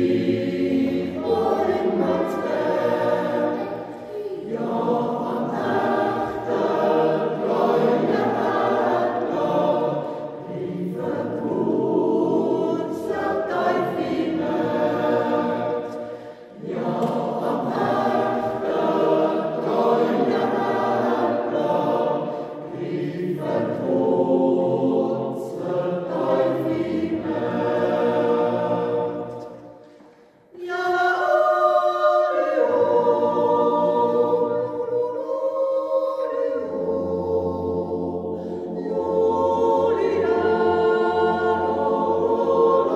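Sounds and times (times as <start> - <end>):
choir yodeling a cappella: 0.0 - 42.9.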